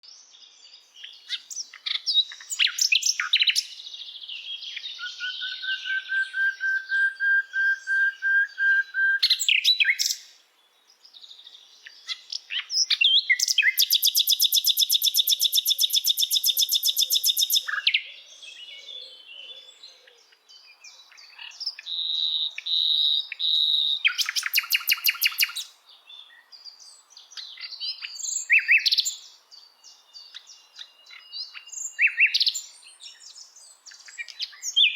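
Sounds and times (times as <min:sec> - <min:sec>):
birds chirping and whistling: 0:01.0 - 0:10.3, 0:11.4 - 0:34.9.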